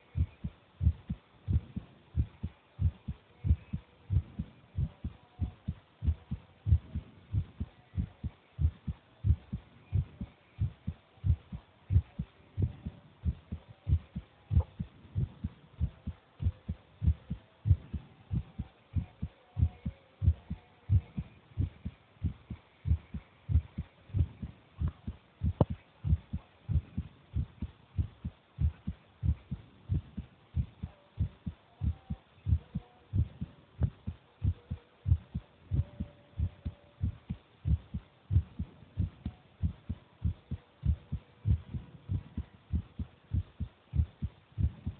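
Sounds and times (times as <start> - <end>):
child's heartbeat thumps: 0.2 - 44.9.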